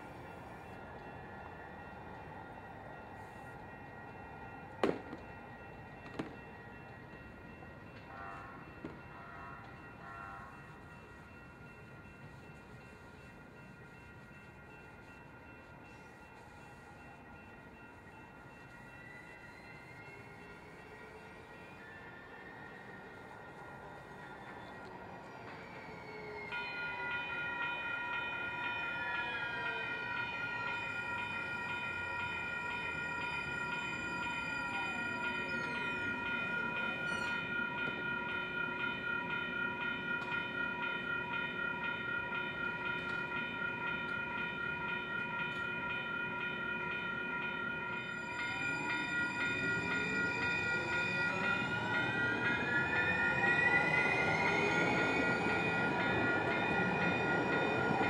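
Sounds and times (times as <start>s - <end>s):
crossing warning bells ringing: 0.0s - 58.0s
train rumbling: 0.0s - 58.0s.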